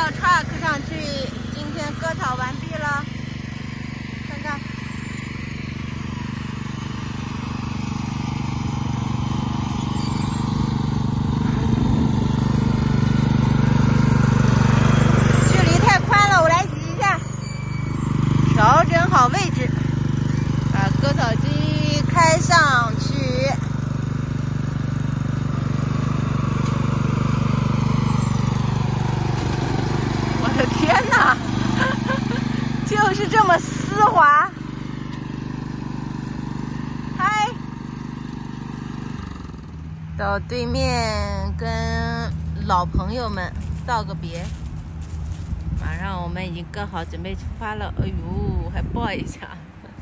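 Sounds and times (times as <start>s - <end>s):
lawn mower engine running: 0.0s - 50.0s.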